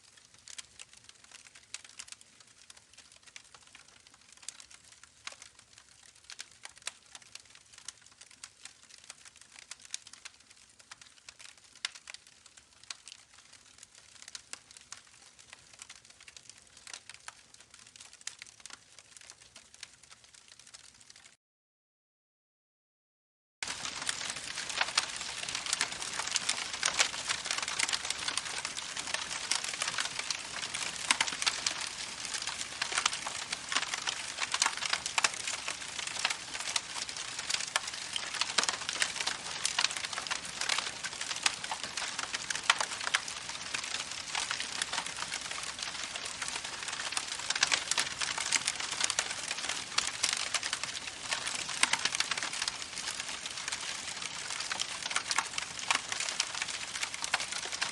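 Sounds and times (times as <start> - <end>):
campfire crackling: 0.1 - 21.3, 23.6 - 57.9.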